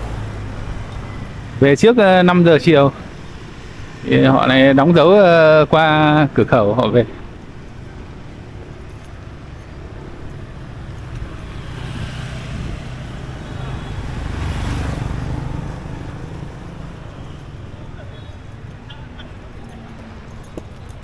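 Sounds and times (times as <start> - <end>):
motorbike engines running: 0.0 - 21.0.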